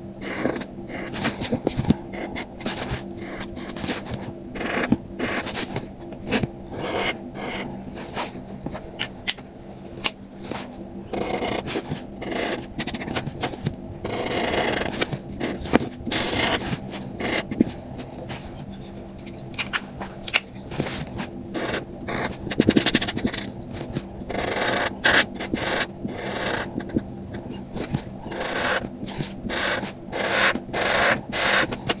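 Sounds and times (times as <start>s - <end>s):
paper scraping and rubbing: 0.2s - 8.4s, 10.4s - 18.7s, 19.9s - 32.0s.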